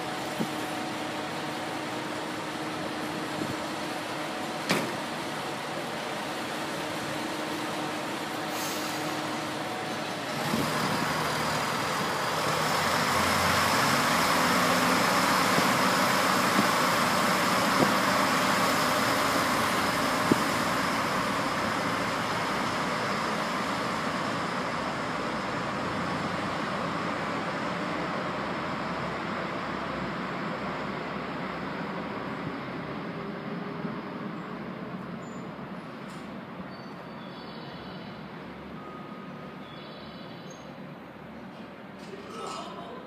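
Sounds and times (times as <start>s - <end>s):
diesel train engines: 0.0s - 43.0s.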